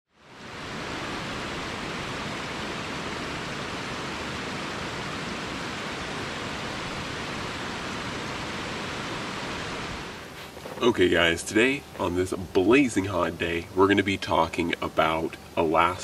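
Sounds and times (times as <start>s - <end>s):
stream rushing over rocks: 0.2s - 16.0s.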